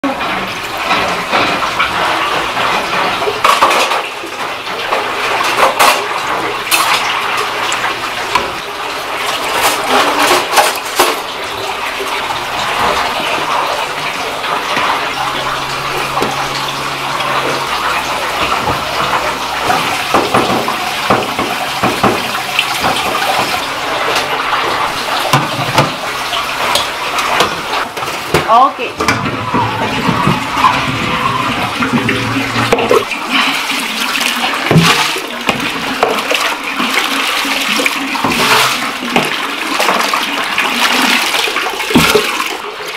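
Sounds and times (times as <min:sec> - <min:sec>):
water running and splashing: 0:00.0 - 0:42.9.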